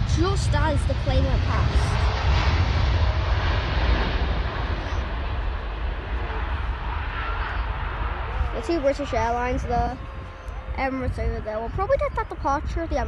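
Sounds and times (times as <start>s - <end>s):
jet airliner passing: 0.0s - 13.0s.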